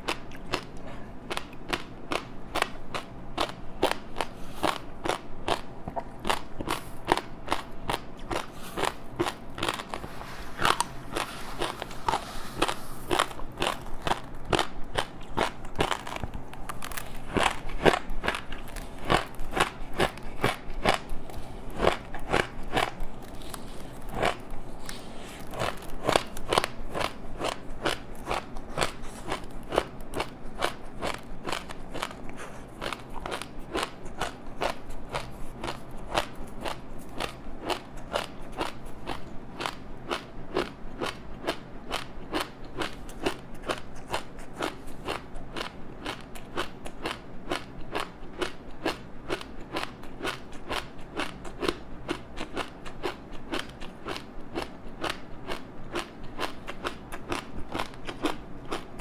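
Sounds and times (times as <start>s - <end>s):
crunchy snack chewing: 0.0s - 59.0s.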